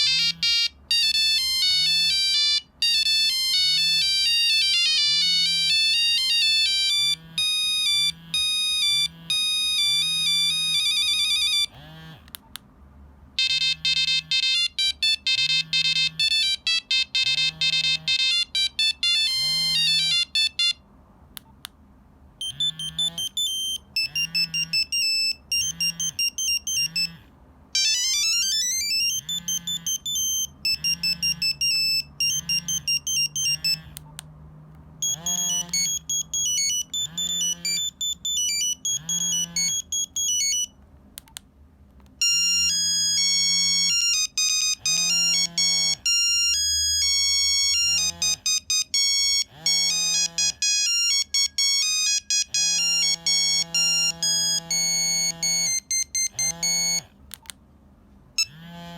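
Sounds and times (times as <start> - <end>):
phone ringtone melodies: 0.0 - 12.2, 13.4 - 20.9, 22.4 - 34.0, 35.0 - 40.8, 42.2 - 57.1, 58.4 - 58.9.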